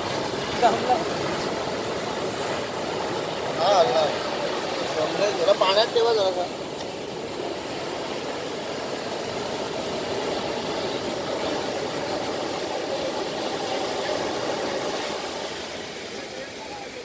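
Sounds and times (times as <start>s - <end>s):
waves breaking on sand: 0.0s - 17.0s.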